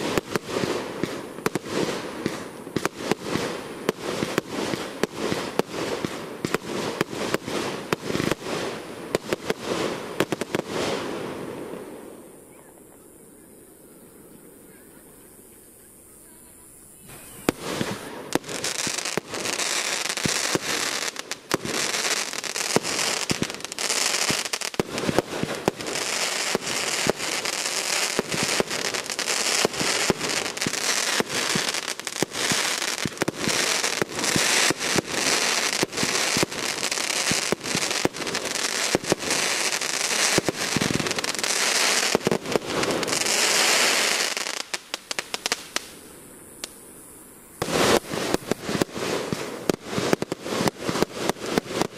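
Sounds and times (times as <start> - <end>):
fireworks crackling and popping: 0.0 - 13.2, 16.7 - 51.9.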